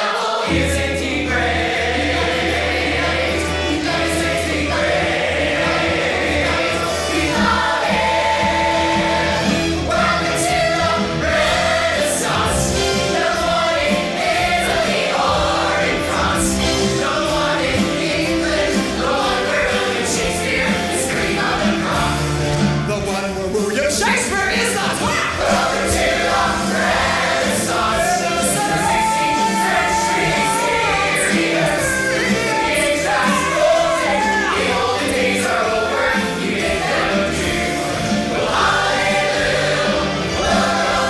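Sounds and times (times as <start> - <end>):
cast singing show tune: 0.0 - 41.0
pit orchestra playing: 0.0 - 41.0.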